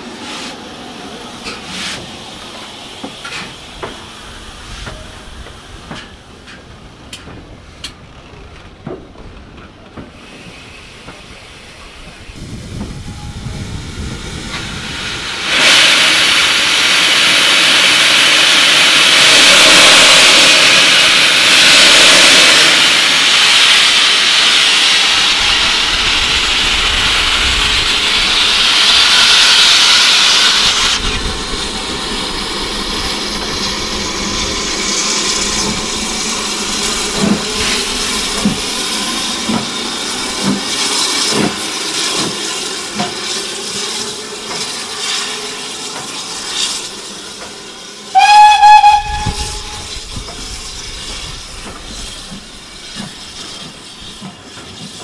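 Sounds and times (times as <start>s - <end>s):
steam locomotive venting steam: 0.0s - 55.0s.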